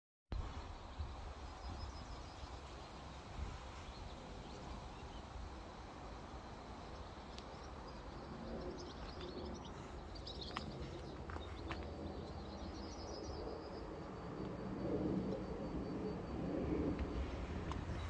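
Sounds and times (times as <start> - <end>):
steady low rumble: 3.3 - 18.0.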